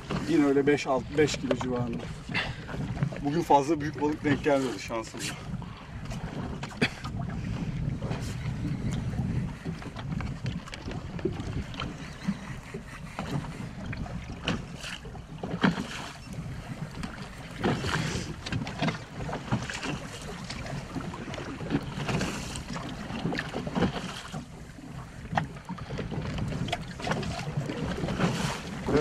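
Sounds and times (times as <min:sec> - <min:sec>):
water lapping against boat hull: 0:00.0 - 0:29.0
wind buffeting microphone: 0:00.0 - 0:29.0.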